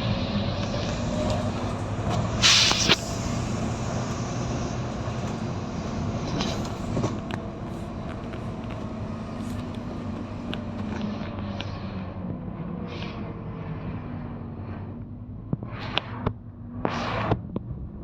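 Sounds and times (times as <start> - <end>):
diesel bus engine running: 0.0 - 18.0.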